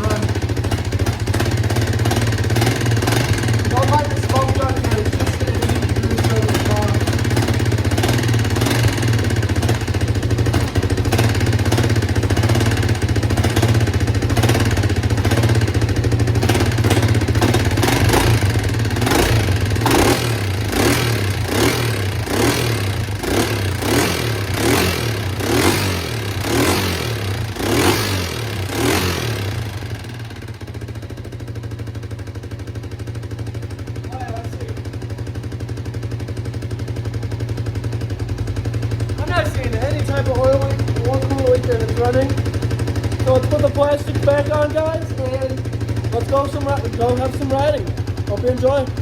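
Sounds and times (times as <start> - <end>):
quad engine revving and idling: 0.0 - 49.0.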